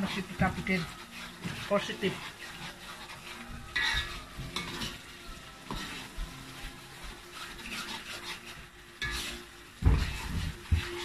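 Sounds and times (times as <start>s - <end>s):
chilli paste sizzling in a wok: 0.0s - 11.0s.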